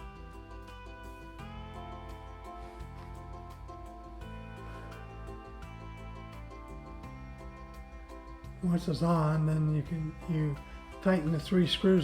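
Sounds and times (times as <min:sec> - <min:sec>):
background music with sustained notes: 0:00.0 - 0:12.0.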